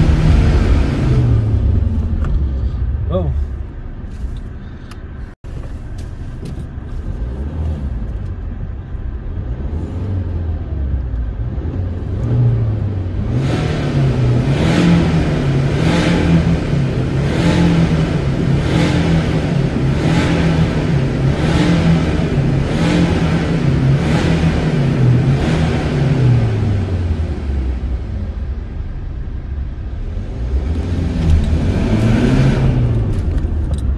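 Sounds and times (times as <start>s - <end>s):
diesel car engine and exhaust: 0.0s - 33.9s.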